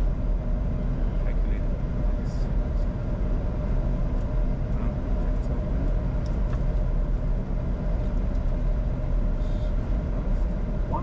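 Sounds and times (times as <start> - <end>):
jet cockpit rumble: 0.0 - 11.0.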